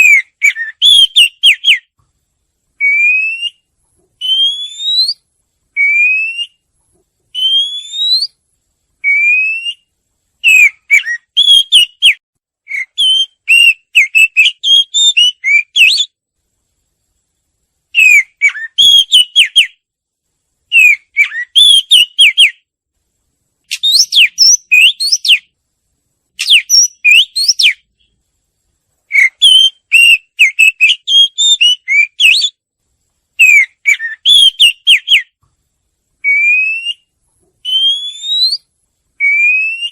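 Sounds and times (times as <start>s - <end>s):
songbird singing: 0.0s - 2.1s, 2.8s - 8.4s, 9.0s - 16.2s, 17.9s - 19.9s, 20.7s - 22.7s, 23.6s - 25.6s, 26.3s - 28.2s, 29.0s - 32.6s, 33.4s - 35.5s, 36.2s - 39.9s.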